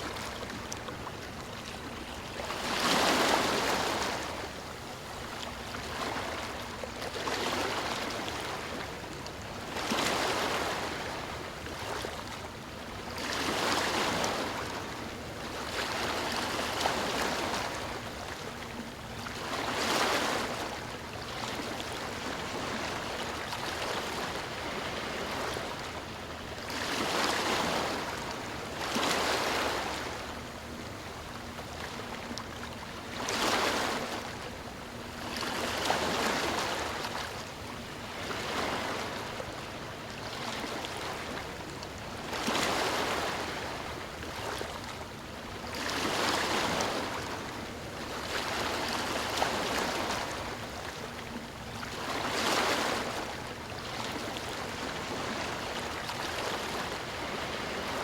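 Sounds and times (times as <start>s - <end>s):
sea waves washing in: 0.0s - 8.9s, 13.1s - 45.0s, 45.6s - 58.0s.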